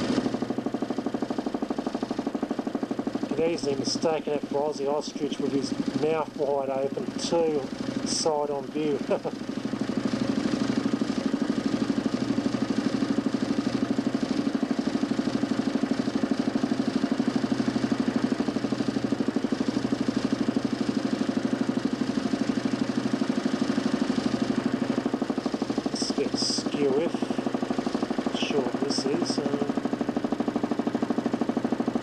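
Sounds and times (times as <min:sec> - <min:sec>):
electric motor humming and pulsing: 0:00.0 - 0:32.0.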